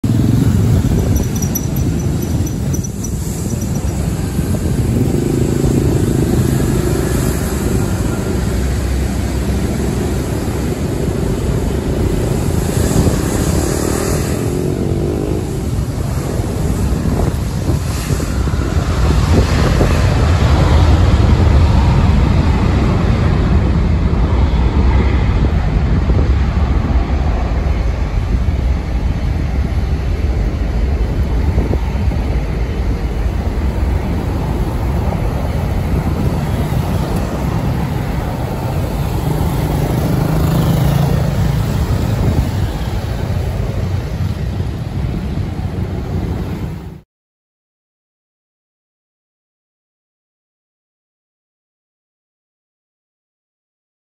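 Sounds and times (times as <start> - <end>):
jet engine rumble: 0.0 - 47.0
wind buffeting microphone: 0.0 - 47.0.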